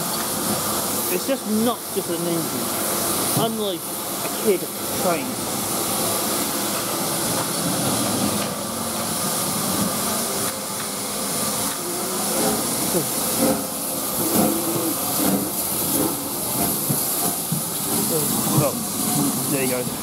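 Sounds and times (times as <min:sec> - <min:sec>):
steam locomotive hissing: 0:00.0 - 0:20.0.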